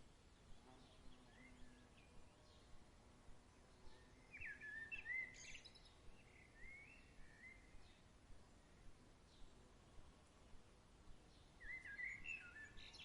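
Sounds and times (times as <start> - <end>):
birds chirping: 0.3 - 2.9, 3.5 - 10.6, 11.2 - 13.0.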